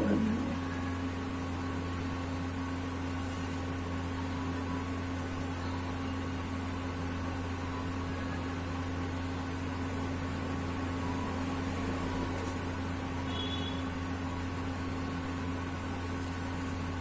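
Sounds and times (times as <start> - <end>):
electric fan humming: 0.0 - 17.0.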